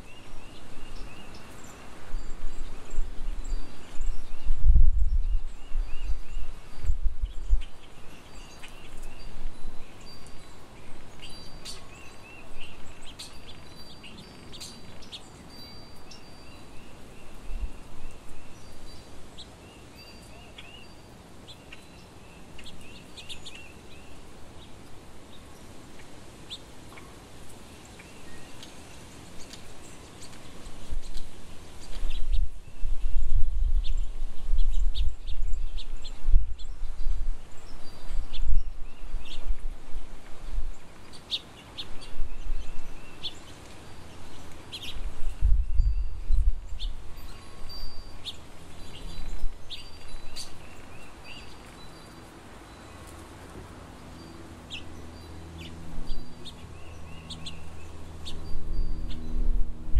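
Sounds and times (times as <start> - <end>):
outdoor background noise: 0.0 - 59.9
songbirds chirping: 0.0 - 59.9.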